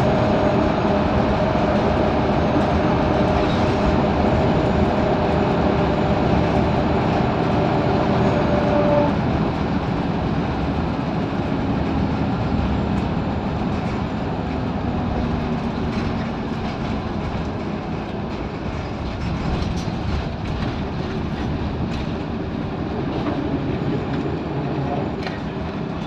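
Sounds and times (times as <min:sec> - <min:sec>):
diesel bus engine running: 0:00.0 - 0:26.0
road noise: 0:00.0 - 0:26.0.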